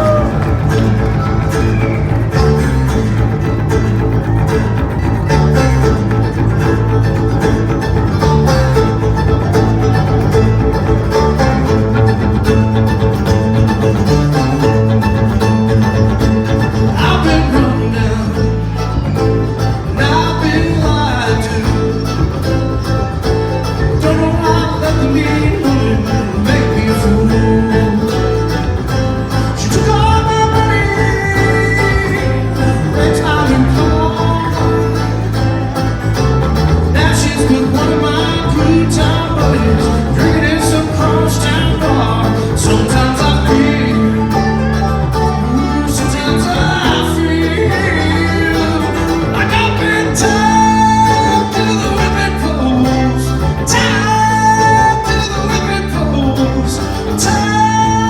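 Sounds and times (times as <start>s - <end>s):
acoustic guitar: 0.0s - 58.0s
banjo: 0.0s - 58.0s.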